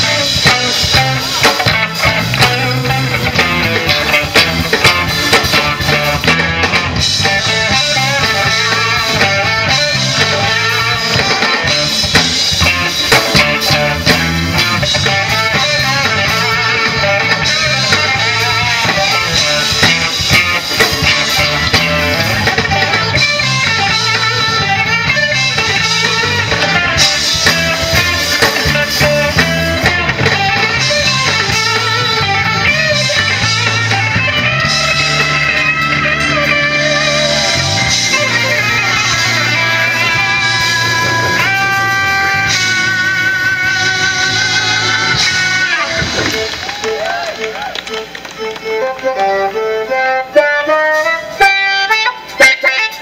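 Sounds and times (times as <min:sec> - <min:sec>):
electric guitar: 0:00.0 - 0:53.0
live blues band: 0:00.0 - 0:53.0.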